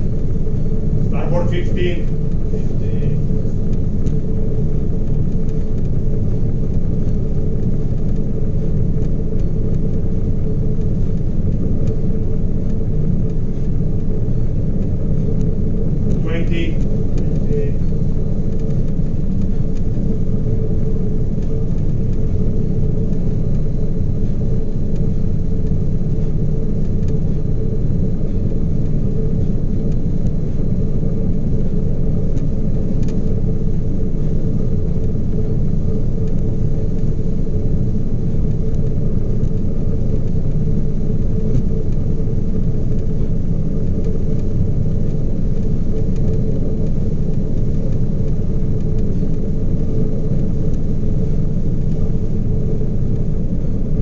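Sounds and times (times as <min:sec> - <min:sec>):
ship engine rumbling: 0:00.0 - 0:44.0
machinery hum: 0:00.0 - 0:54.0.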